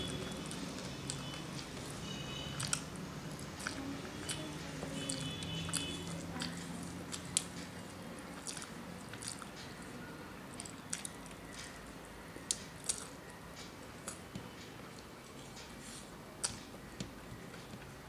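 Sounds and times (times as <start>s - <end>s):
chewing with mouth clicks: 0.0s - 14.2s, 14.9s - 16.7s.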